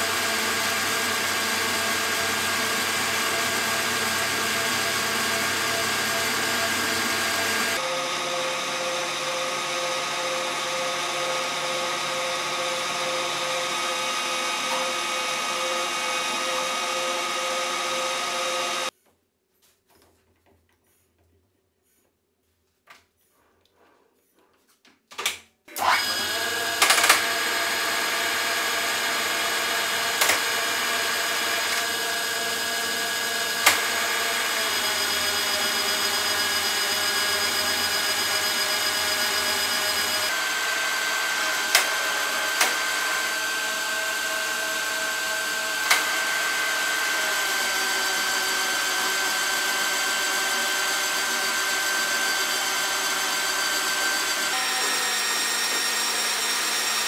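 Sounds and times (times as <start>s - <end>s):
metal lathe whining: 0.0s - 18.9s, 25.8s - 57.0s.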